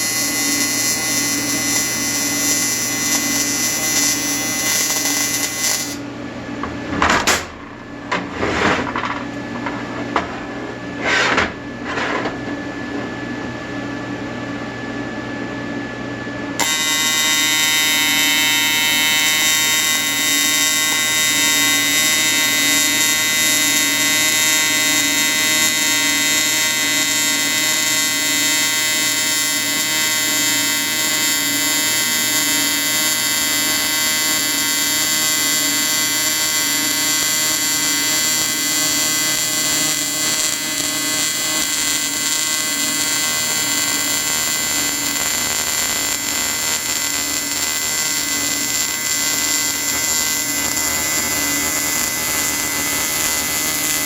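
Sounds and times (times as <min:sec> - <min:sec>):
welding arc buzzing: 0:00.0 - 0:06.1, 0:16.6 - 0:54.0.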